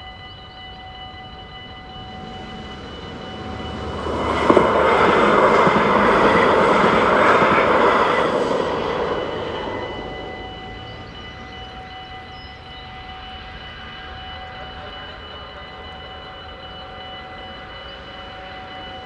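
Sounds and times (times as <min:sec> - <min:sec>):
level crossing bells ringing: 0:00.0 - 0:19.0
train rumbling past: 0:00.0 - 0:19.0.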